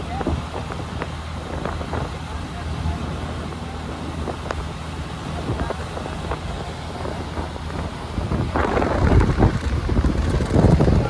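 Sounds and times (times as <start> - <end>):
diesel boat engine drone: 0.0 - 11.0
wind buffeting microphone: 0.0 - 11.0.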